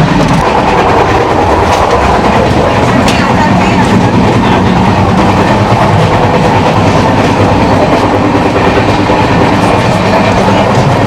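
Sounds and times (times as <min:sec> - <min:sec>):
train coach rattling: 0:00.0 - 0:11.0
train wheels rumbling on rails: 0:00.0 - 0:11.0.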